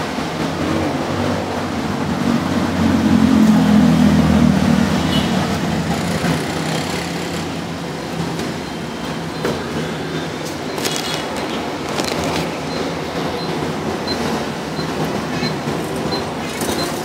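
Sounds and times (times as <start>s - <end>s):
street traffic noise: 0.0s - 17.0s
vehicle engine humming: 0.1s - 17.0s.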